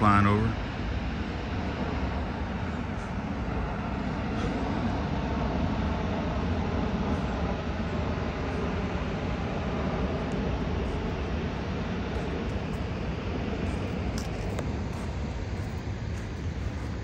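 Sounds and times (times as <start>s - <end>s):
jet airliner rumble: 0.0s - 17.0s.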